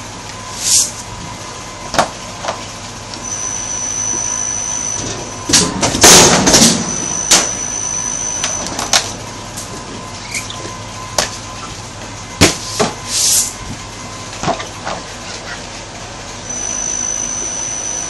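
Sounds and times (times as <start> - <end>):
machine high whine: 0.0 - 15.4, 16.2 - 18.0.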